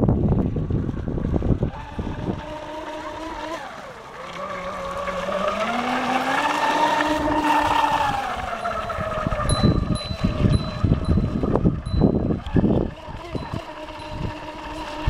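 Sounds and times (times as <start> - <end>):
model boat electric motor whining: 0.0 - 15.0.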